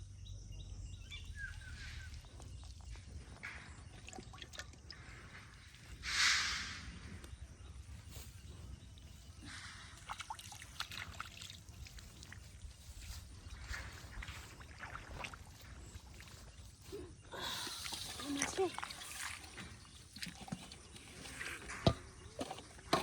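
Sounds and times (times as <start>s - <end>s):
water sloshing and dripping: 1.2s - 23.0s.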